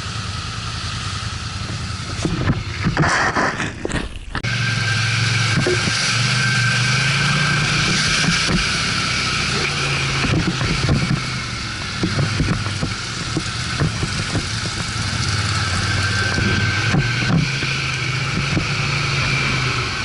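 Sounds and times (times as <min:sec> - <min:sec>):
quad bike engine running: 0:00.0 - 0:20.0
knocks and jolts over rough ground: 0:01.4 - 0:20.0.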